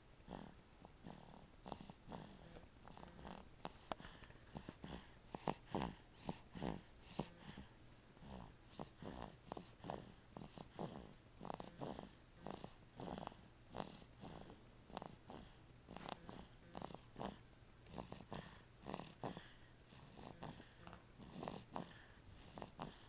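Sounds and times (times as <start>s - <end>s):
snoring: 0.3s - 23.0s.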